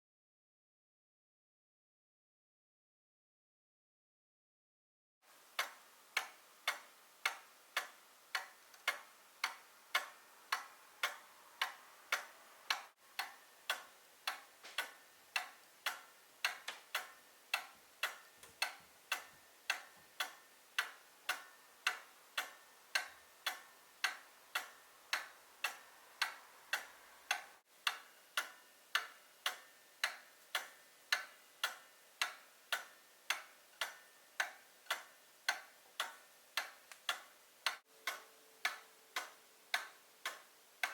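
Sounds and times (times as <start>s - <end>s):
clock ticking: 5.5s - 40.9s.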